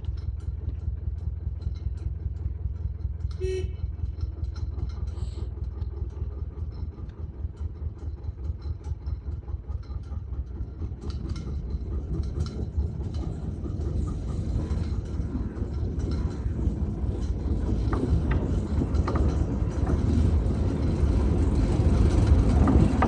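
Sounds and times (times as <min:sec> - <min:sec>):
locomotive engine rumble: 0:00.0 - 0:23.0
wheels clanking on rails: 0:00.0 - 0:23.0.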